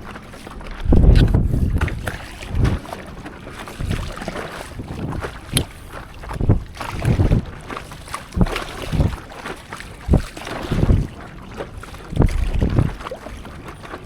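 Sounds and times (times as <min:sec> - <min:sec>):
water splashing from paddling: 0:00.0 - 0:14.0
wind buffeting microphone: 0:00.0 - 0:14.0.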